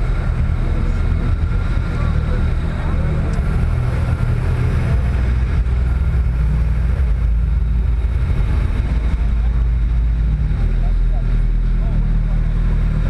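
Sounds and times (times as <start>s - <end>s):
car engine running: 0.0s - 13.0s
wind noise on microphone: 0.0s - 13.0s.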